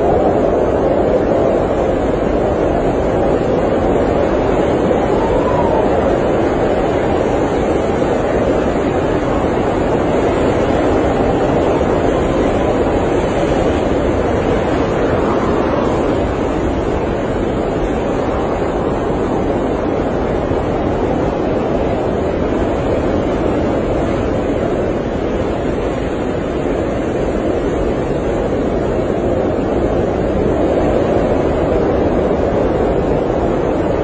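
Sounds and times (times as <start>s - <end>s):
blizzard wind blowing: 0.0s - 34.0s.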